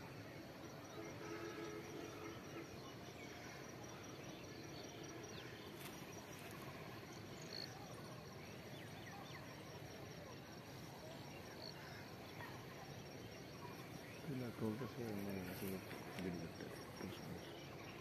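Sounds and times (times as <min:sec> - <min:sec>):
insect trill: 0:00.0 - 0:18.0.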